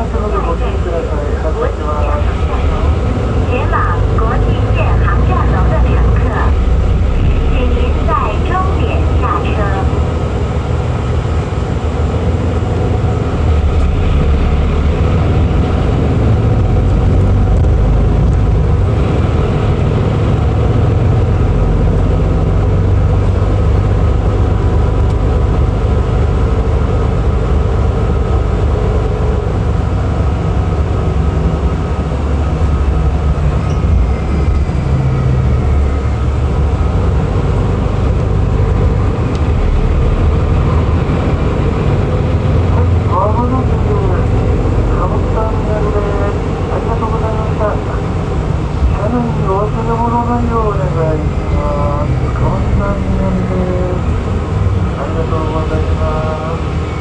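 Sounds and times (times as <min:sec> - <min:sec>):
bus engine drone: 0:00.0 - 0:57.0
road rumble: 0:00.0 - 0:57.0.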